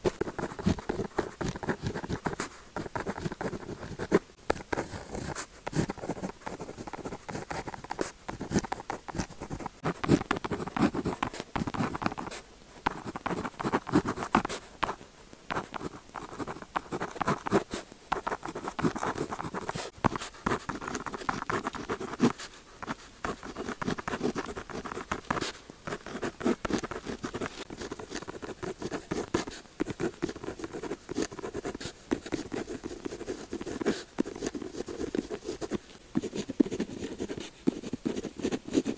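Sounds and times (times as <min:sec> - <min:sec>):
pen scratching on paper: 0:00.0 - 0:38.9.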